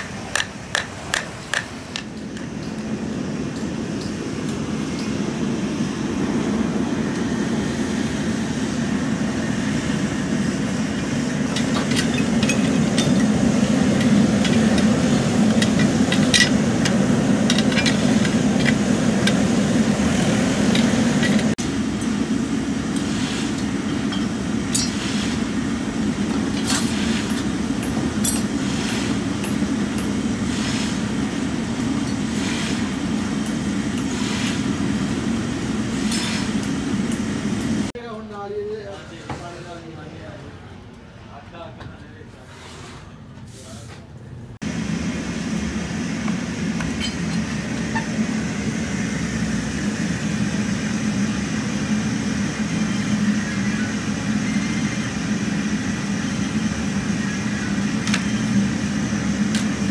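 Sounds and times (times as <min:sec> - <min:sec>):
furnace rumbling: 0:00.0 - 0:59.9.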